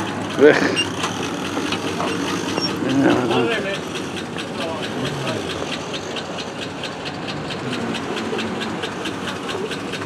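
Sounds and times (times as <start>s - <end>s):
pickup engine idling with ticking: 0.0s - 10.0s.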